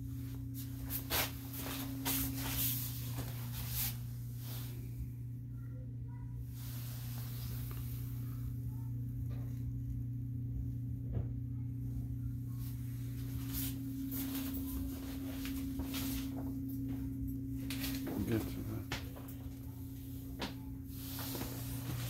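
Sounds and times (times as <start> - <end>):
furnace humming: 0.0 - 22.0.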